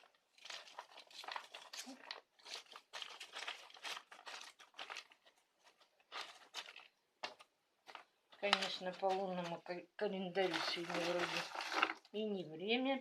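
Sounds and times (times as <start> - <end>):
hands rustling plant potting: 0.0 - 12.2.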